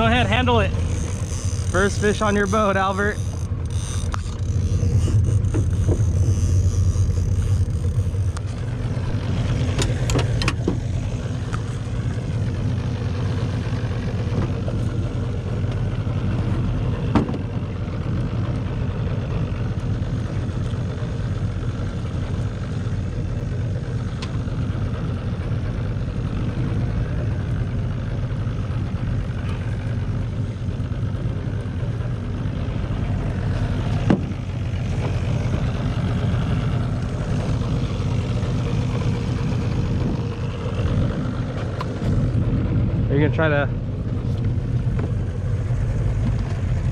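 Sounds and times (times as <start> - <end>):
outboard motor idling: 0.0 - 46.9.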